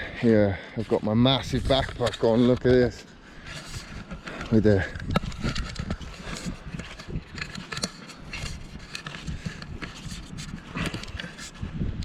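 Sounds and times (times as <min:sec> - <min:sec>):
rustling and scraping: 0:00.2 - 0:12.0.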